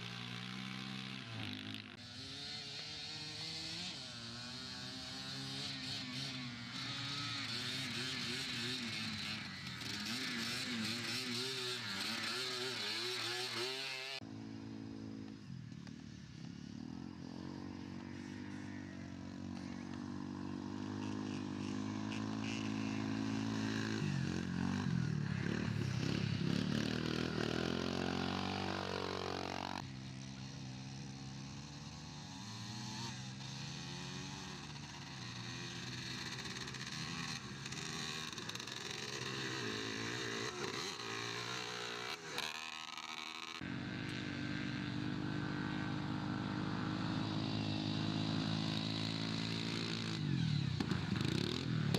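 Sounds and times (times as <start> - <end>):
quad engines revving past: 0.0 - 51.9.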